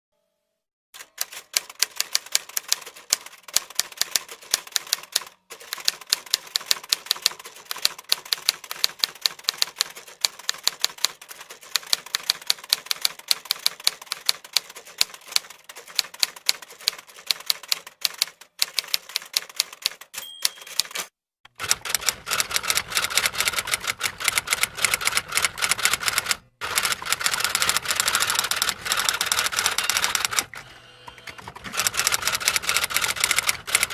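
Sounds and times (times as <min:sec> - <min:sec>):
fast typing on keyboard: 0:01.0 - 0:30.6, 0:31.3 - 0:33.9.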